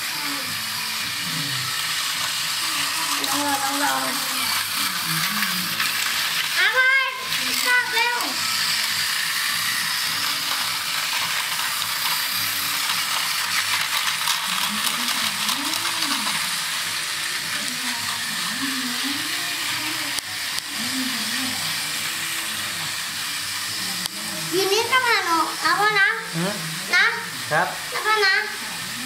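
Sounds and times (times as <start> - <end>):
toy train motors whirring: 0.0 - 29.0.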